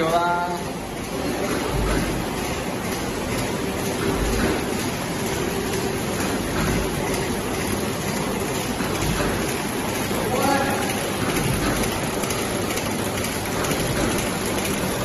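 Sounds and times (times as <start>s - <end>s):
wrapping machine running: 0.0s - 15.0s.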